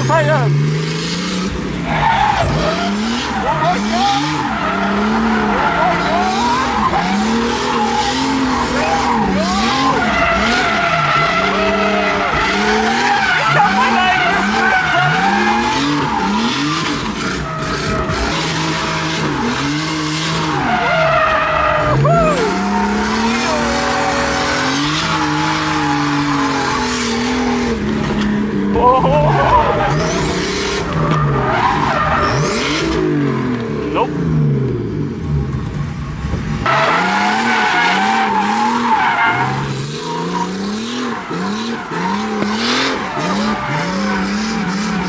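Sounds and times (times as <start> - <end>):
tyres squealing and skidding: 0.0 - 33.6, 36.6 - 45.0
car engine revving hard: 0.0 - 35.4, 36.6 - 45.0.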